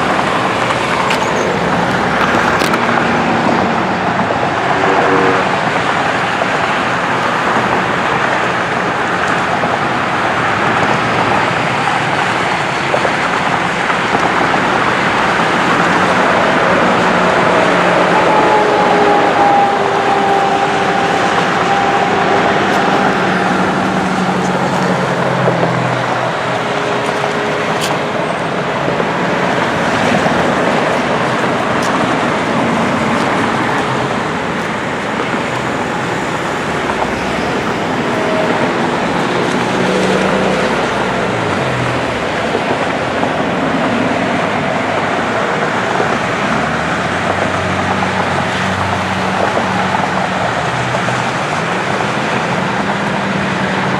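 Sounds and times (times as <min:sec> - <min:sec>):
vehicles passing by: 0:00.0 - 0:53.9.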